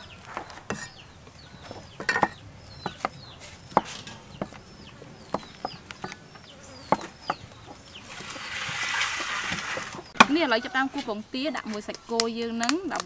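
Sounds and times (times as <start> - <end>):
chicks peeping: 0.0 - 11.2.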